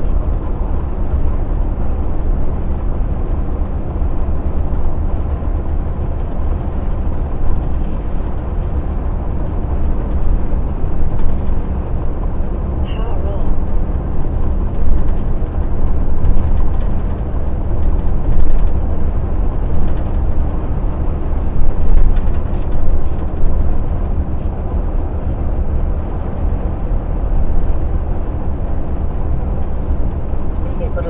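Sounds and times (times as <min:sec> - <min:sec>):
diesel engine drone: 0:00.0 - 0:31.0
road and tyre noise: 0:00.0 - 0:31.0.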